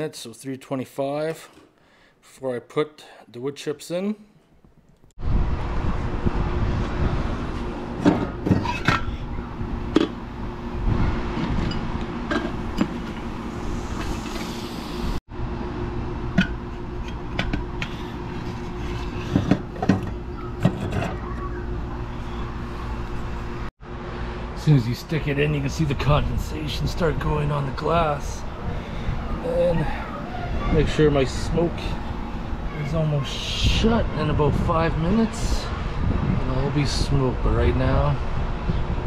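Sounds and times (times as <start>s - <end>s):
low outdoor rumble and hum: 5.2s - 39.0s.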